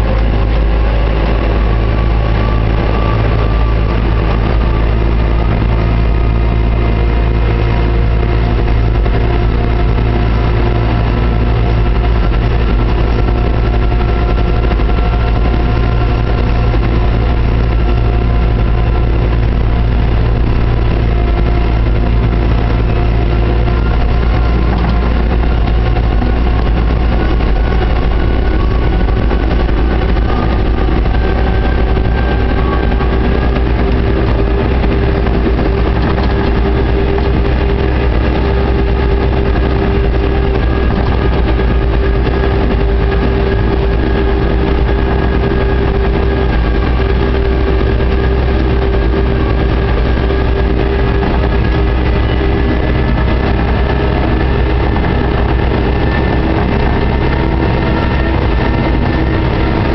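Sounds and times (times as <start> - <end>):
diesel engine running: 0.0 - 59.9
steady whine: 0.0 - 59.9.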